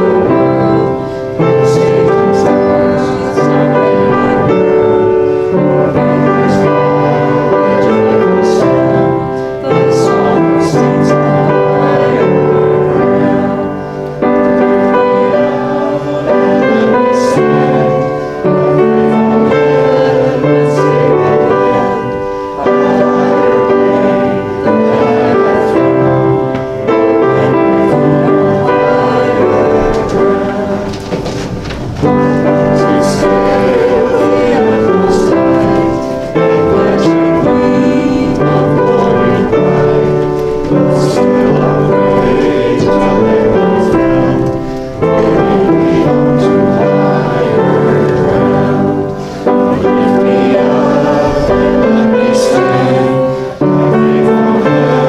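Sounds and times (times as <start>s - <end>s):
congregation singing a hymn: 0.0s - 55.0s
piano accompaniment: 0.0s - 55.0s.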